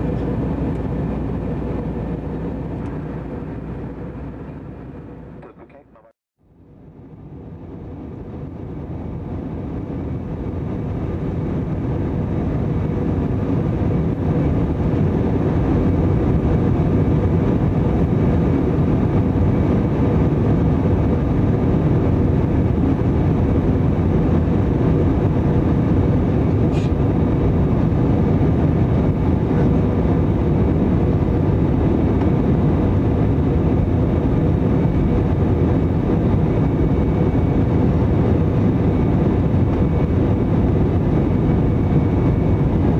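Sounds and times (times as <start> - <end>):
jet engine rumble and airflow: 0.0 - 42.9.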